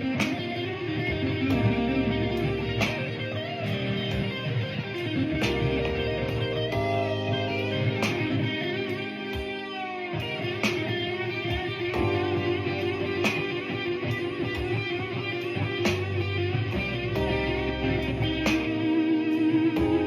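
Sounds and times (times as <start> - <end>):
blues guitar playing: 0.0 - 20.0.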